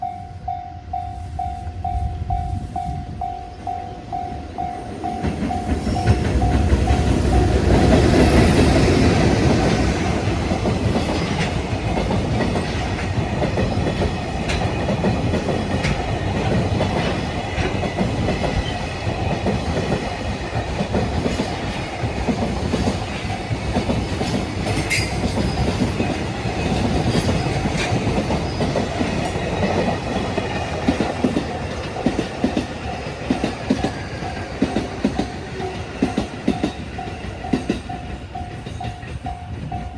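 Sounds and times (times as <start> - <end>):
electric locomotive passing: 0.0 - 39.9
wagon wheels clacking over rail joints: 5.1 - 39.9.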